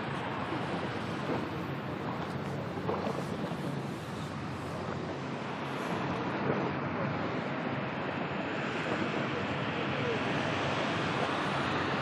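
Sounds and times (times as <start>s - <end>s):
waves on open water: 0.0s - 12.0s.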